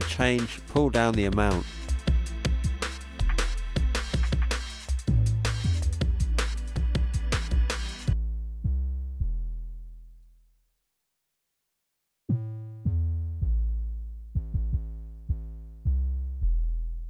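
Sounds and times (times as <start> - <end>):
synth bass notes: 0.0 - 10.2, 12.3 - 17.0.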